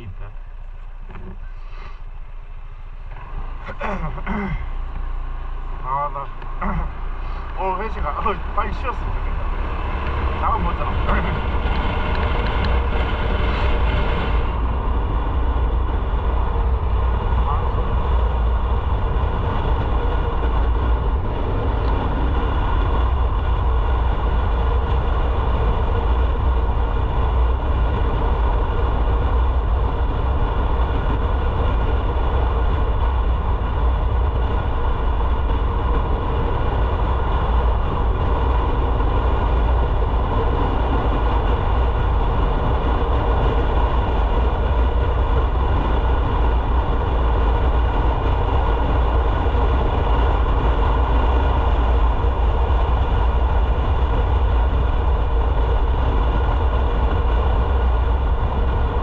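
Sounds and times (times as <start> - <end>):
motorcycle engine drone: 0.0 - 59.0
wind and road noise: 0.0 - 59.0.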